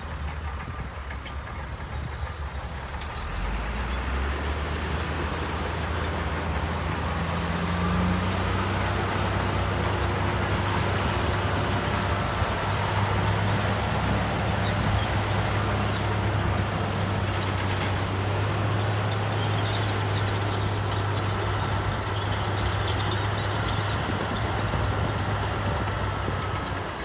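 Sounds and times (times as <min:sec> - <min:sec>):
heavy diesel engine drone: 0:00.0 - 0:27.0.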